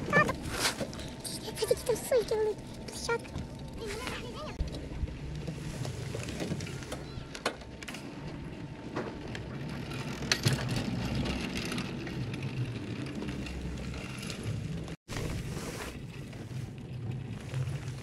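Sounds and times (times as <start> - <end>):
chairlift low rumble: 0.0 - 18.0.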